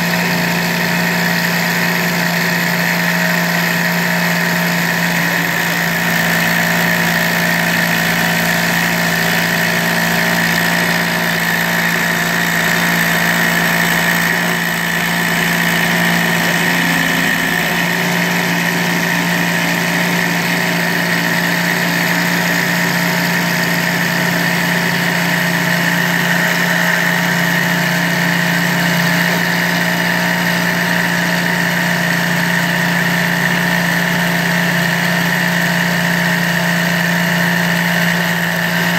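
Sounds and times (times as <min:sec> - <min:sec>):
needle cutter machine hum: 0:00.0 - 0:38.9.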